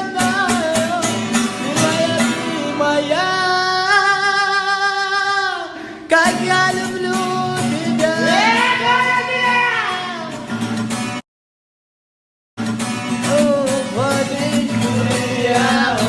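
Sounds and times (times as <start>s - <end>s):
person singing with vibrato: 0.0s - 10.6s, 13.2s - 16.0s
plucked guitar: 0.0s - 11.2s, 12.6s - 16.0s.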